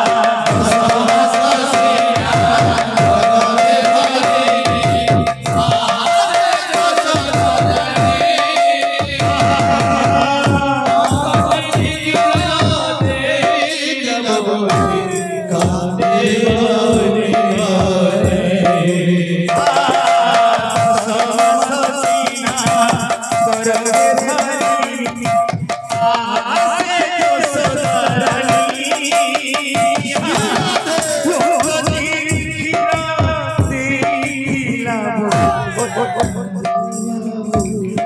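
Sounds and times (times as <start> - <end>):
man singing into microphone: 0.0 - 38.0.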